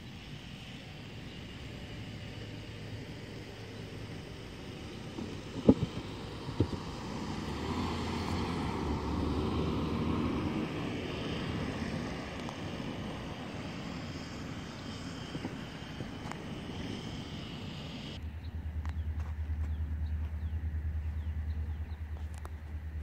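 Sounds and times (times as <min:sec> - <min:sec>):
engine rumble: 0:00.0 - 0:23.0.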